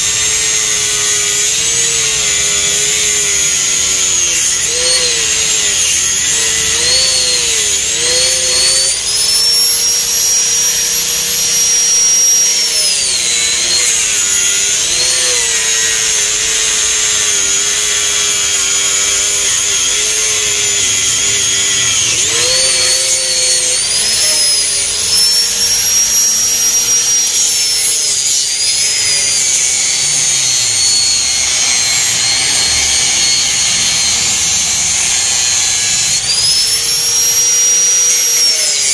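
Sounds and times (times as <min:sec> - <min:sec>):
angle grinder cutting fibreglass: 0:00.0 - 0:38.9.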